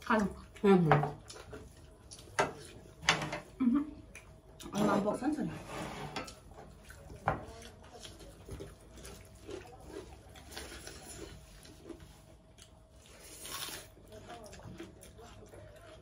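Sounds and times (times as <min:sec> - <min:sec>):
chewing and mouth noises: 0:00.0 - 0:05.1, 0:06.3 - 0:16.0.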